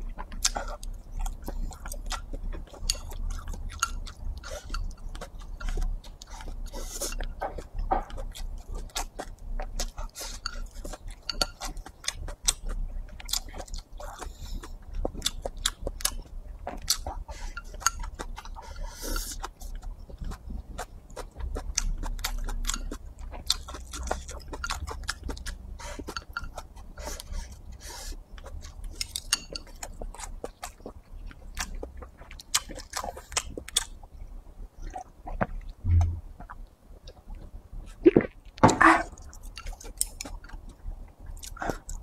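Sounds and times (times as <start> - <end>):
wet chewing: 0.0 - 34.2.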